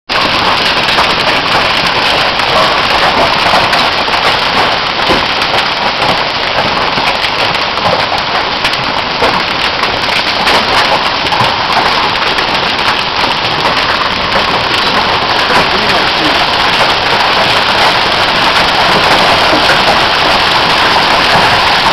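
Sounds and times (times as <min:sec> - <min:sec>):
hailstones hitting surfaces: 0:00.1 - 0:21.9
heavy rain: 0:00.1 - 0:21.9.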